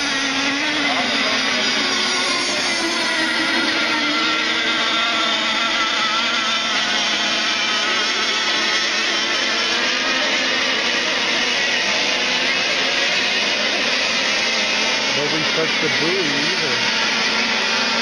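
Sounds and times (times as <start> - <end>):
model boat engines whining: 0.0 - 18.0.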